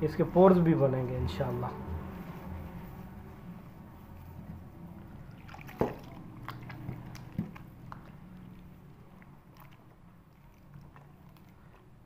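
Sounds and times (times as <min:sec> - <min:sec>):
hand kneading wet dough: 0:00.0 - 0:12.0.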